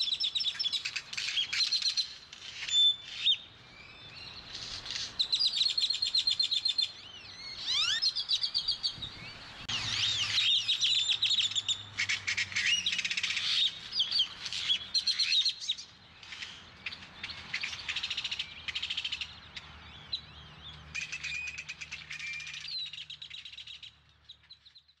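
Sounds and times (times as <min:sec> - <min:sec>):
birds chirping and singing: 0:00.0 - 0:25.0.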